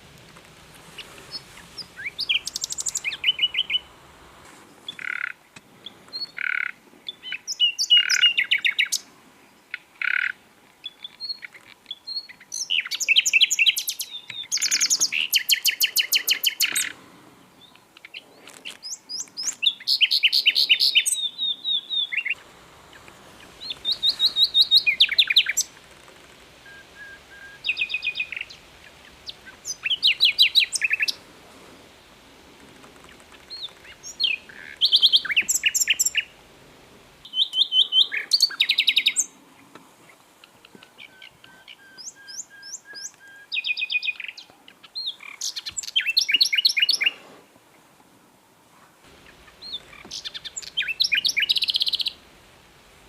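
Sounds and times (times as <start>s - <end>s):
nightingale singing: 0.0s - 4.1s, 4.7s - 31.3s, 31.9s - 36.5s, 37.2s - 39.4s, 40.4s - 47.2s, 49.1s - 52.8s.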